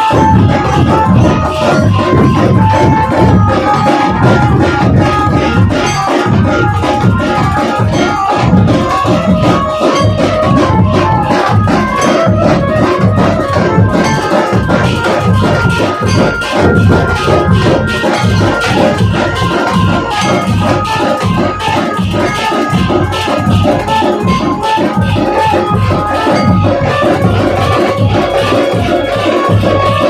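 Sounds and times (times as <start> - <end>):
fast drumming on barrel drums: 0.0 - 30.0
steady high tones: 0.0 - 30.0.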